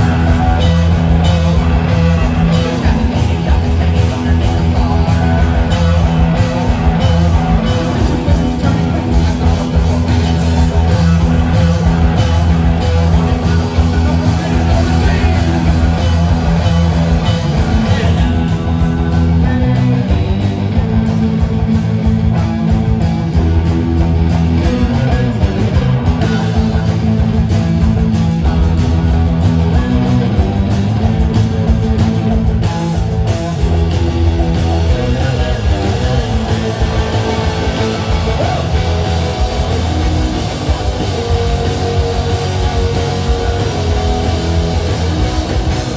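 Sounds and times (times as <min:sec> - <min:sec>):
bass guitar: 0:00.0 - 0:45.9
drum kit: 0:00.0 - 0:45.9
electric guitars: 0:00.0 - 0:45.9.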